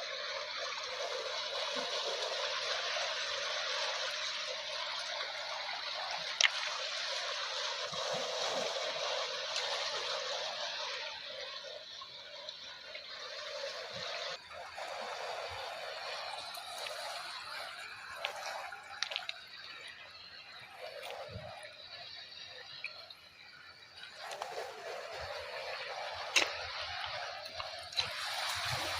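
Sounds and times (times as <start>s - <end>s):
water washing and trickling: 0.0s - 28.9s.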